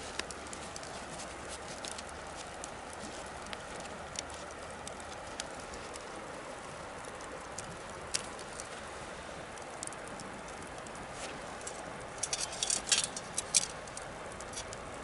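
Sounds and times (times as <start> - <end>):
bonfire crackling: 0.0 - 15.0
rushing noise of burning wood: 0.0 - 15.0.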